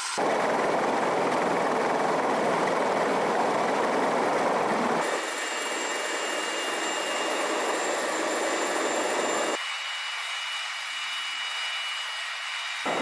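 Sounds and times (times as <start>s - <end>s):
helicopter rotor and turbine noise: 0.0s - 13.0s
high-pitched turbine whine: 0.0s - 13.0s.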